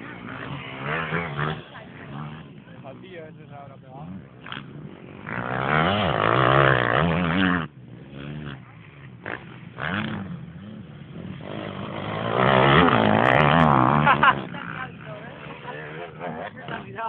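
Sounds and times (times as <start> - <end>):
dirt bike engines revving past: 0.0 - 17.0.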